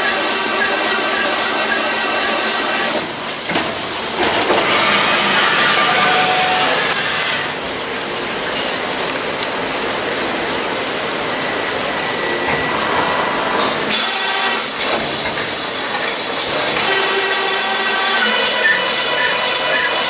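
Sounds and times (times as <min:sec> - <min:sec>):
workshop machinery running: 0:00.0 - 0:20.0.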